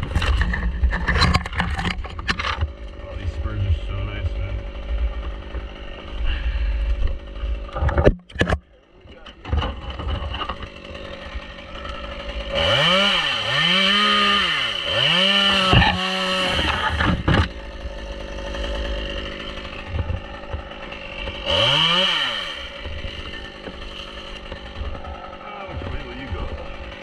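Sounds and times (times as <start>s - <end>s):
chainsaw revving: 0.0s - 8.1s, 8.8s - 27.0s.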